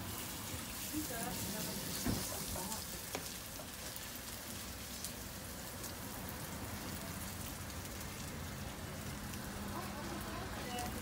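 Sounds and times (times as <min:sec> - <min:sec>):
pancake sizzling in hot oil: 0:00.0 - 0:11.0.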